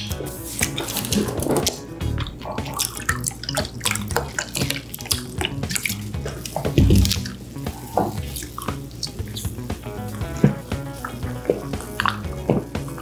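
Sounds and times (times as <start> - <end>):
soft background music: 0.0 - 13.0
wet chewing and mouth clicks: 0.0 - 13.0.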